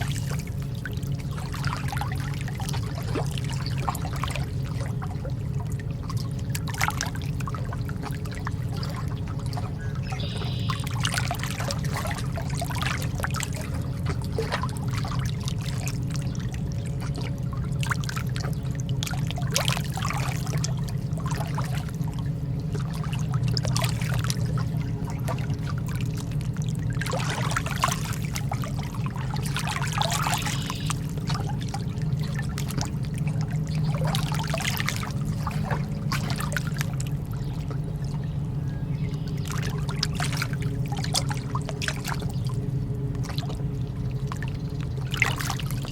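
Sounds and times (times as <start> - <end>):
sea water lapping and splashing: 0.0 - 45.9
steady low hum: 0.0 - 45.9.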